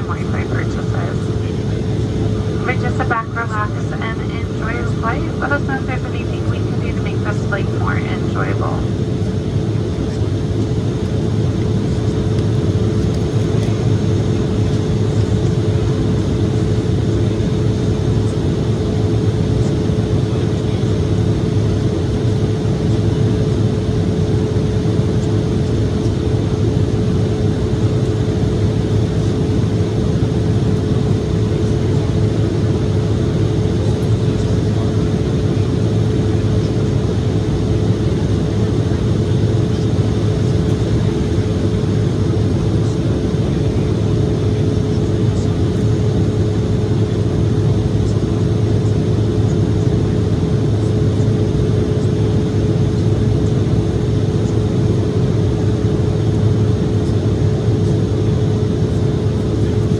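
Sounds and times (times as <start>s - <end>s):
constant pitched whine: 0.0s - 59.9s
jet engines humming: 0.0s - 59.9s.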